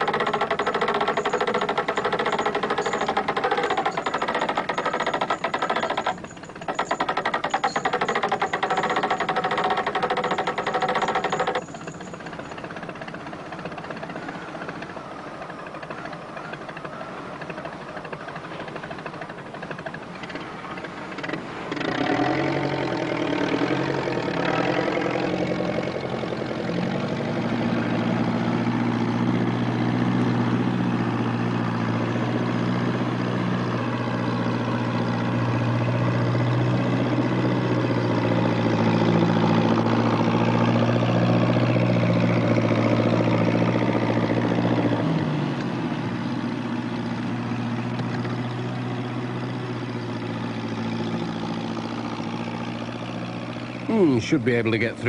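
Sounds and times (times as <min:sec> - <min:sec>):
motor engine starting and running: 0:00.0 - 0:55.0.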